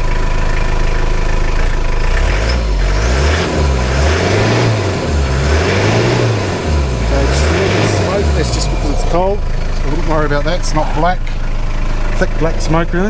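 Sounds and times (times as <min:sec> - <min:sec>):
diesel engine idling and revving: 0:00.0 - 0:13.0.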